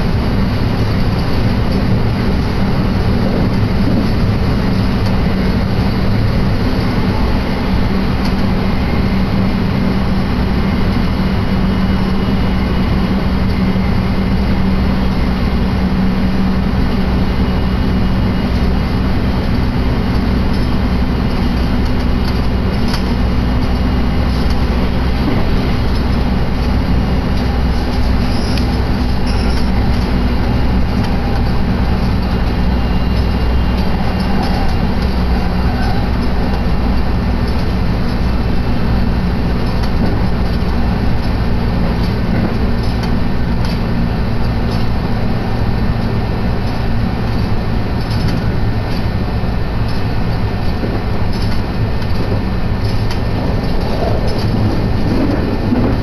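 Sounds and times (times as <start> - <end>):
constant low hum: 0.0 - 56.0
train wheels rumbling: 0.0 - 56.0.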